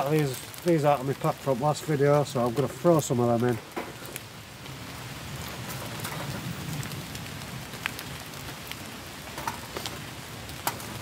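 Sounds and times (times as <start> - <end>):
wood fire crackling in stove: 0.0 - 11.0.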